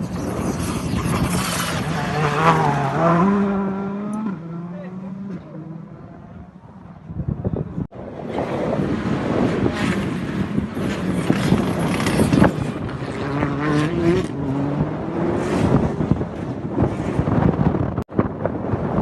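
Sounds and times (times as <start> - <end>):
rally car engine revving: 0.0 - 6.5, 8.3 - 18.0.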